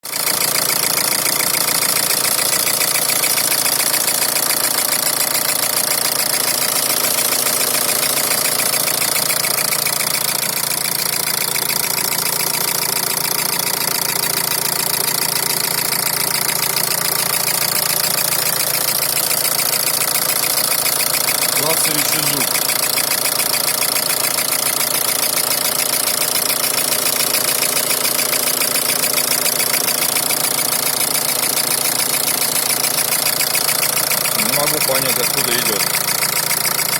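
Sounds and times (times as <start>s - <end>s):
diesel engine idling: 0.1s - 36.9s.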